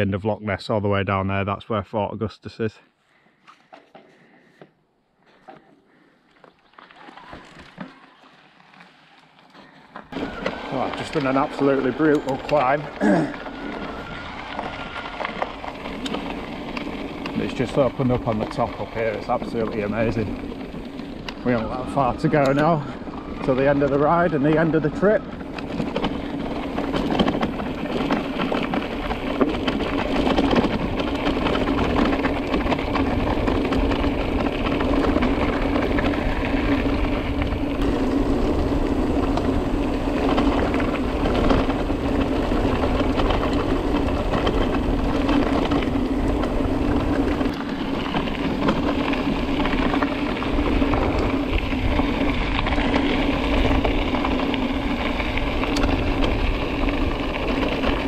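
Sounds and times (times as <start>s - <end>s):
tyre rumble on trail: 5.2s - 58.0s.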